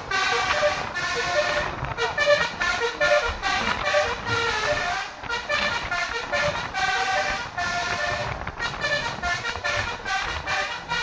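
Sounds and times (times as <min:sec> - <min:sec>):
musical air horn melody: 0:00.0 - 0:11.0.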